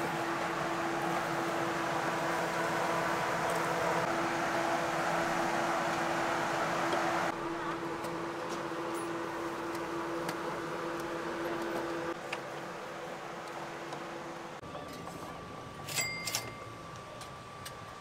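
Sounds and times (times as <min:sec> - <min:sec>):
machine humming: 0:00.0 - 0:14.8.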